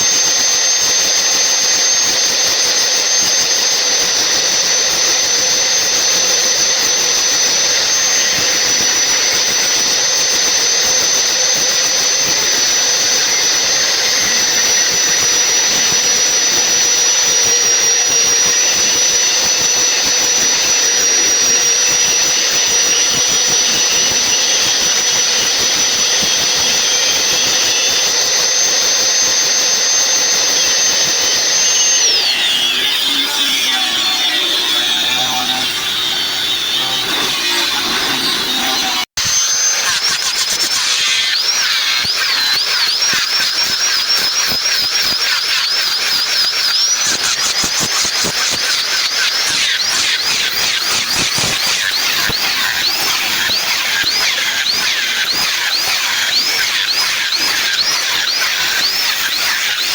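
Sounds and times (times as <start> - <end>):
log saw cutting through log: 0.0 - 59.9.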